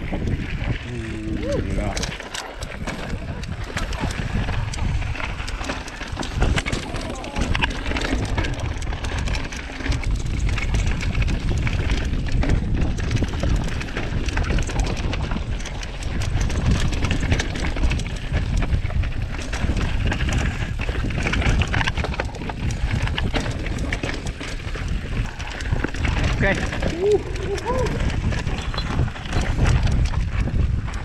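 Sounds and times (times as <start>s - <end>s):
wind buffeting microphone: 0.0s - 31.0s
bike clattering over stones: 1.6s - 31.0s.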